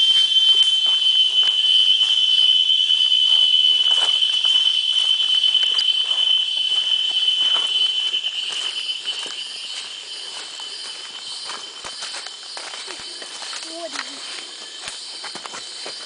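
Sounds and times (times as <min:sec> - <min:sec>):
footsteps: 0:00.0 - 0:16.0.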